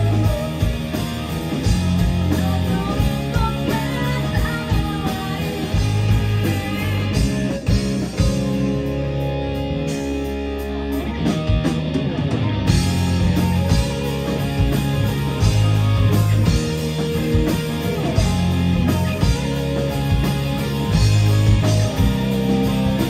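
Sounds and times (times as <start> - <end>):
distorted electric guitars: 0.0 - 23.0
drum kit with cymbals: 0.0 - 23.0
electric bass: 0.0 - 23.0.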